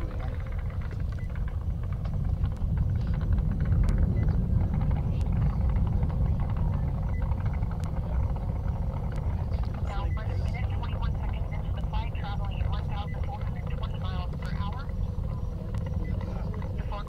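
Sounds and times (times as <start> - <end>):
distant rocket engine rumble: 0.0 - 17.0.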